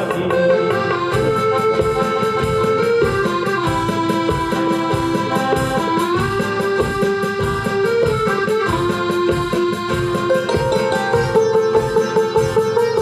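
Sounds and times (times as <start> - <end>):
acoustic guitar: 0.0 - 13.0
keyboard melody: 0.0 - 13.0.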